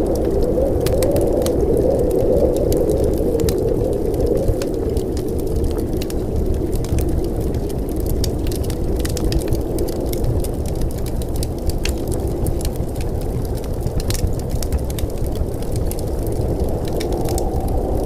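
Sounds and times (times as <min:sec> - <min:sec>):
sharp crackles: 0:00.0 - 0:18.0.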